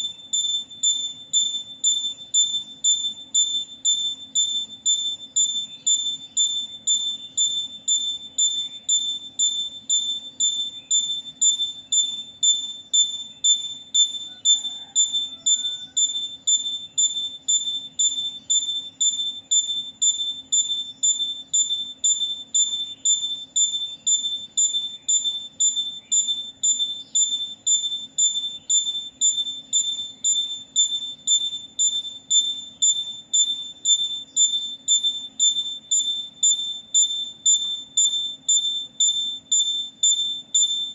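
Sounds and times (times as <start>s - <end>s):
high-pitched beeping: 0.0s - 40.9s.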